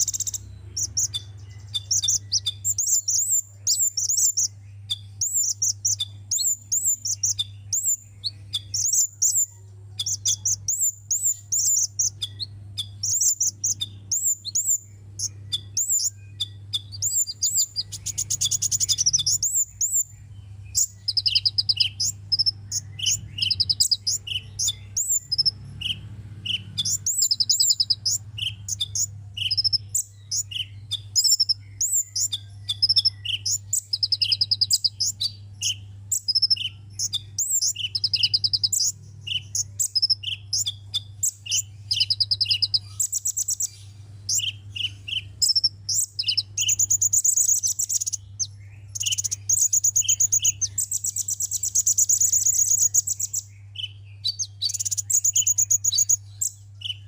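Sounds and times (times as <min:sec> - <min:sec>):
bird chips and buzzy trills: 0:00.0 - 0:57.0
steady low hum: 0:00.0 - 0:57.0.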